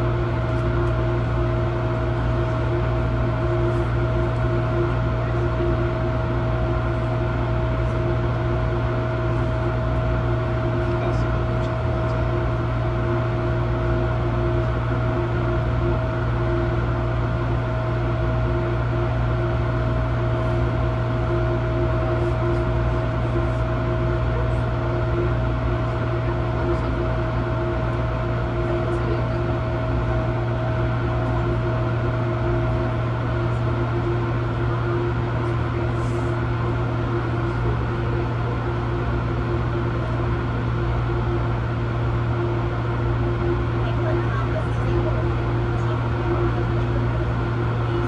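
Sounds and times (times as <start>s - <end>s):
low electrical hum: 0.0s - 48.0s
steady whining tones: 0.0s - 48.0s.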